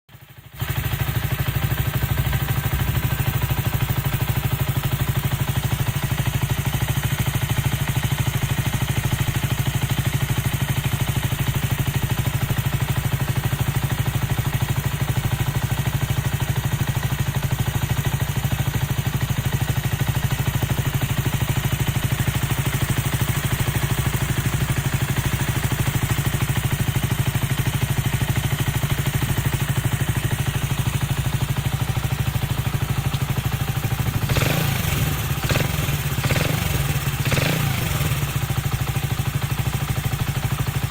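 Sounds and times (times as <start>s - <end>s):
motorcycle engine idling: 0.1s - 40.9s.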